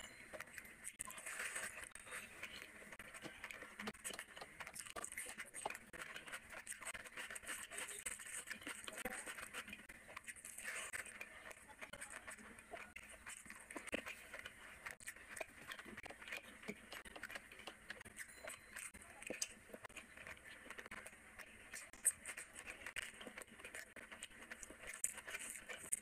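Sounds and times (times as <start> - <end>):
fingers squishing rice: 0.0 - 26.0
wet chewing and lip-smacking: 0.0 - 26.0.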